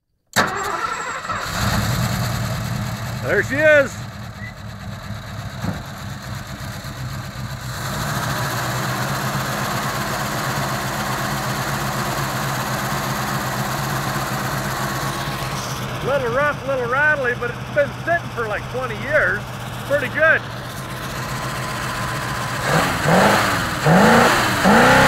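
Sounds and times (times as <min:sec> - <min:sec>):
rough rattly engine idling: 0:00.5 - 0:25.0.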